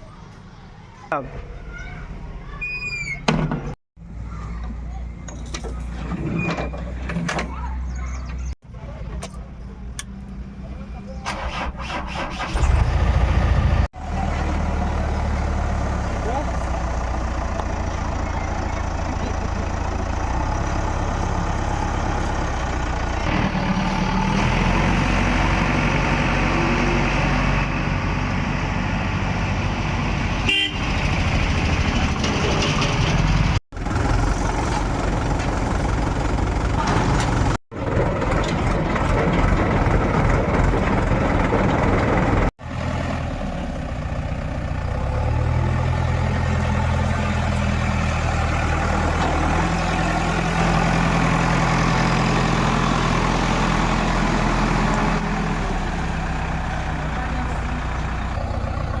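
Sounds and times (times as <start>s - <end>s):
heavy diesel engines under load: 3.4s - 59.0s.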